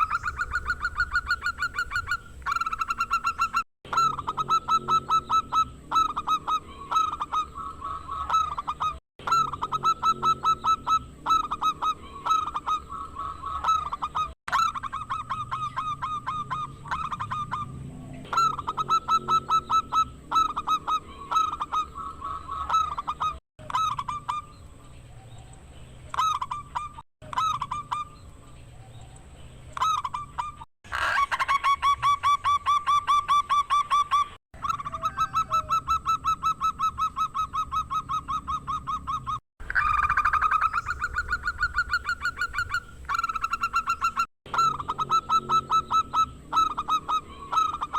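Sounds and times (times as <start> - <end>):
dove cooing: 0.0 - 24.5, 29.8 - 47.9.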